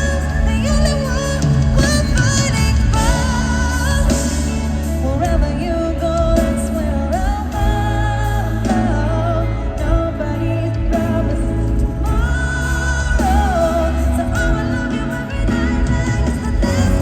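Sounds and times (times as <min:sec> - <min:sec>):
heavy bass: 0:00.0 - 0:17.0
live pop song: 0:00.0 - 0:17.0
person singing: 0:00.0 - 0:17.0.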